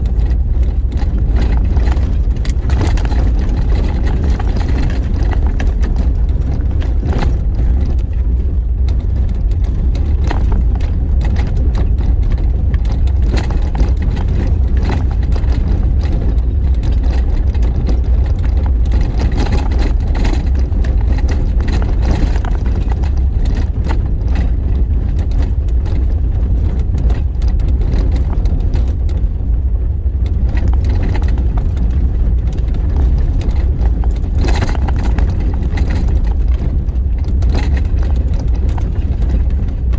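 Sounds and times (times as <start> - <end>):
knocks and rattles from bumps: 0.0 - 39.9
vehicle engine and tyres rumbling: 0.0 - 39.9.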